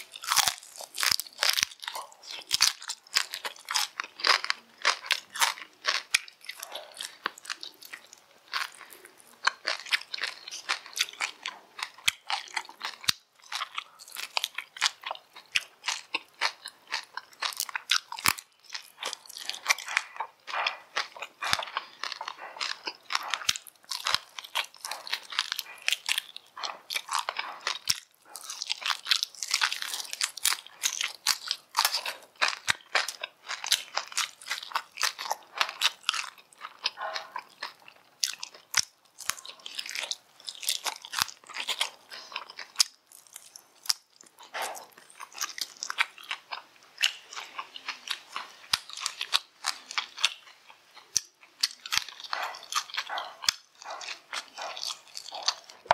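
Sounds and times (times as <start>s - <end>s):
crunchy food chewing: 0.0s - 55.9s.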